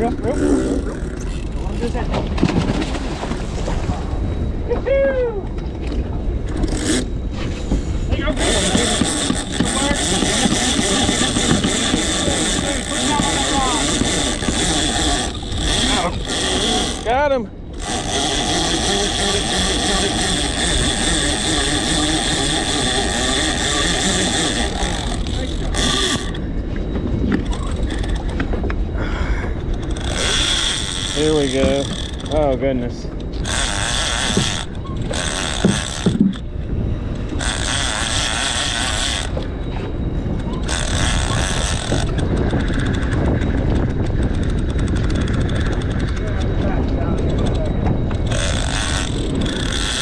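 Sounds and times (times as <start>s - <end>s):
fishing reel whirring: 0.0s - 2.0s, 6.3s - 50.0s
high whine: 0.0s - 50.0s
outboard engines rumbling: 0.0s - 50.0s.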